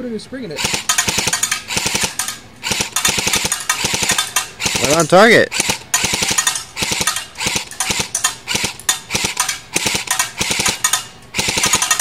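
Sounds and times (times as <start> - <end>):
airsoft rifle firing bursts: 0.6 - 12.0.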